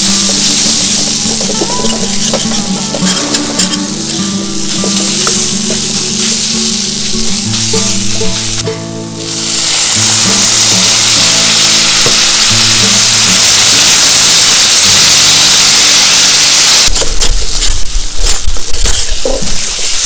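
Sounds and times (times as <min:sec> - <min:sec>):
water sizzling in hot pan: 0:00.0 - 0:20.0.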